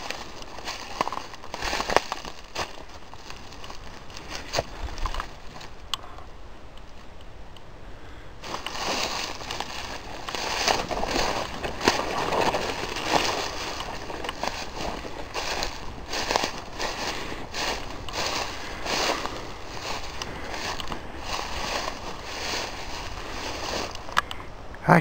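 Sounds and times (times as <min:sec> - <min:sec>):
footsteps crunching dry leaves: 0:00.0 - 0:05.9, 0:08.4 - 0:24.2
twigs snapping: 0:00.0 - 0:07.0, 0:08.4 - 0:24.3.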